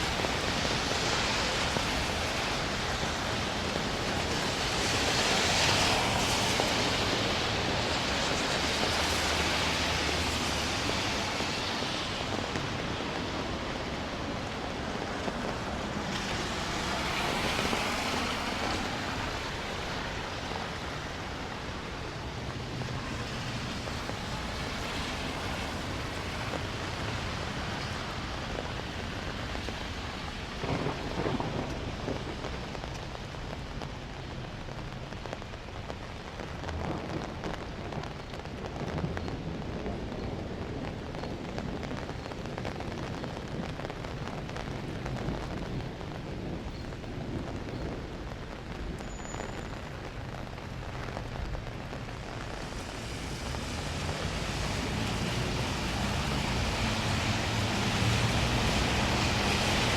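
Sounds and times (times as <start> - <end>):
steady rain falling: 0.0 - 59.9
thunder rumbling: 0.0 - 59.9.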